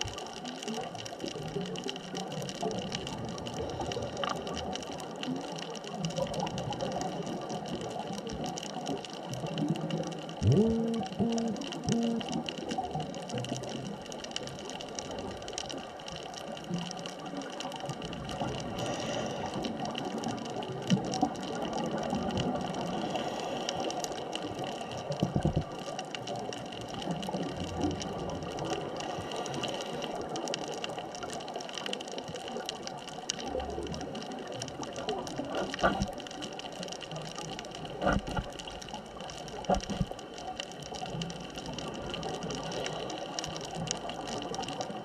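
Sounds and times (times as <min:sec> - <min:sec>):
underwater hiss with crackling clicks: 0:00.0 - 0:45.0
faint steady hum: 0:05.8 - 0:45.0.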